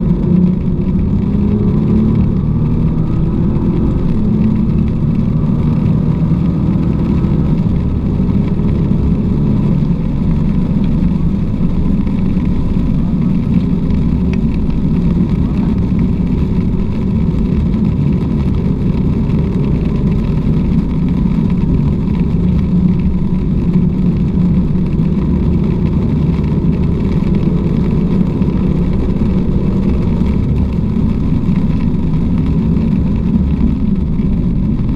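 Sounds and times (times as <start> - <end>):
car engine running: 0.0 - 34.9
road and tyre noise: 0.0 - 34.9.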